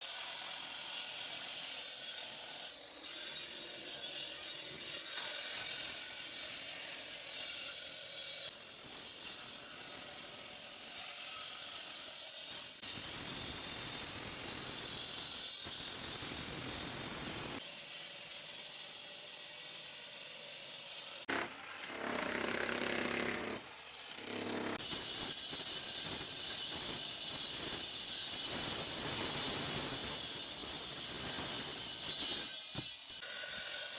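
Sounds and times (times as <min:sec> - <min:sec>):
saw cutting concrete: 0:00.0 - 0:33.9.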